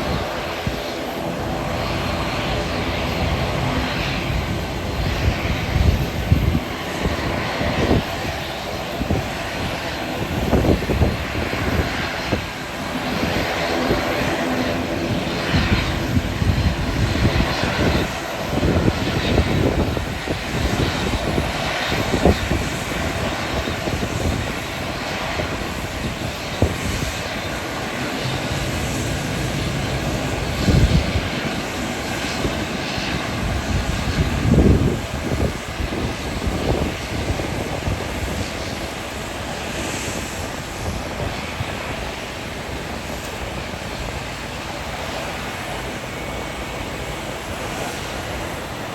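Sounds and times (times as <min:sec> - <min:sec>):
airliner engines running: 0:00.0 - 0:48.9
wind buffeting microphone: 0:00.0 - 0:48.9.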